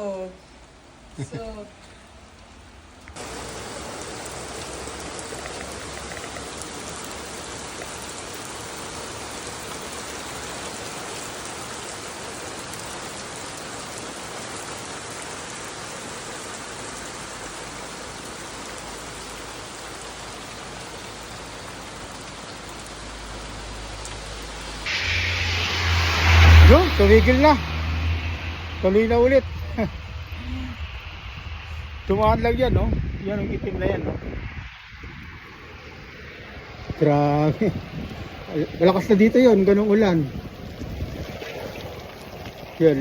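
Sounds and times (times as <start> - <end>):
heavy rain falling: 0.8 - 43.0.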